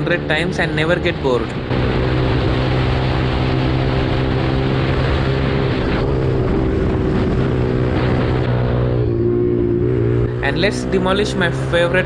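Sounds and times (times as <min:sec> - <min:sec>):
motorcycle engine cruising: 0:00.0 - 0:12.0
wind rushing over microphone: 0:00.0 - 0:12.0.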